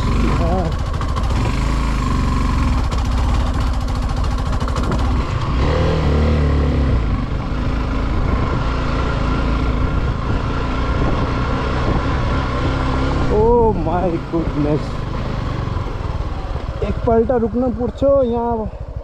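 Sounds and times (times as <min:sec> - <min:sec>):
motorcycle engine pulling hard: 0:00.0 - 0:19.0.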